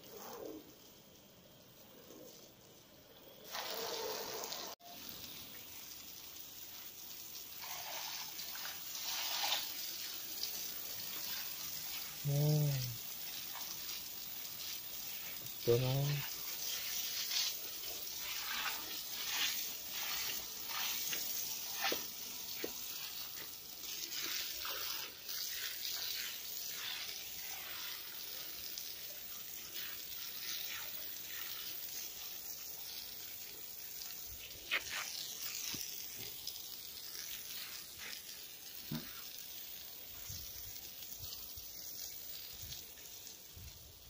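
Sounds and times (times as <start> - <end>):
hose water spraying on concrete: 0.0 - 44.0.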